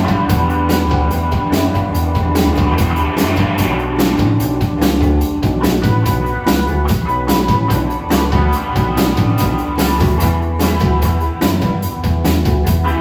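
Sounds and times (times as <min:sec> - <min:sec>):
bass: 0:00.0 - 0:13.0
drum kit with cymbal beat: 0:00.0 - 0:13.0
sustained guitar notes: 0:00.0 - 0:13.0.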